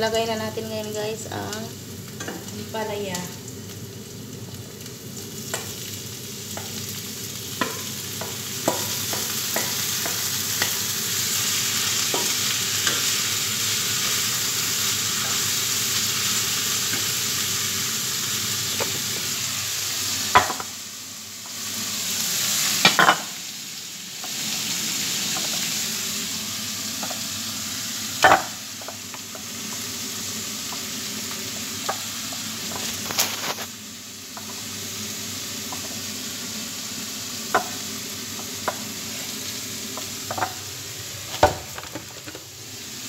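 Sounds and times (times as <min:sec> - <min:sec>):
vegetables sizzling in a pan: 0:00.0 - 0:43.0.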